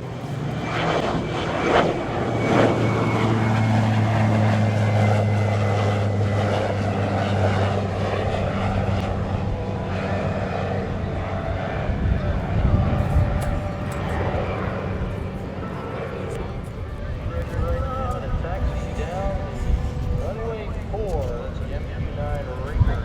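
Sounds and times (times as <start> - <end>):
propeller engine droning: 0.0 - 23.0.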